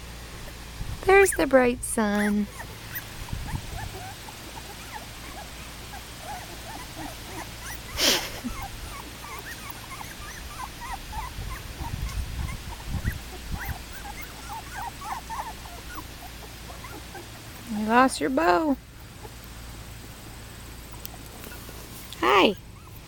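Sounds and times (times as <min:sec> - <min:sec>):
puppies whimpering and squeaking: 0:01.0 - 0:23.0.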